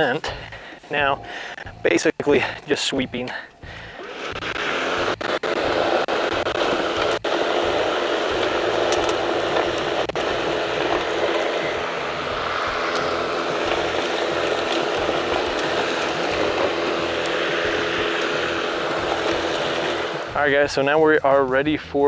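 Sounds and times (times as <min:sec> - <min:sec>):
lawn mower running: 0:03.6 - 0:21.6.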